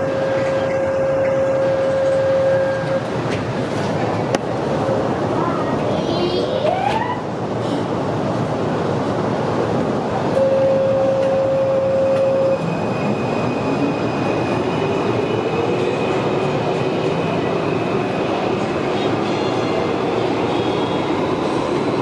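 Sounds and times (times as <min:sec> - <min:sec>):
metro train rumbling: 0:00.0 - 0:22.0.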